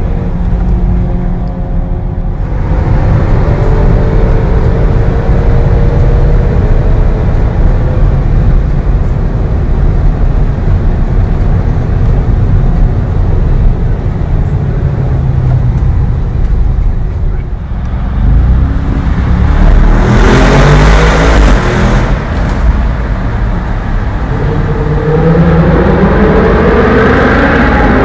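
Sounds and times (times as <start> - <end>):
car cabin road rumble: 0.0 - 28.0
engine note climbing: 0.0 - 28.0.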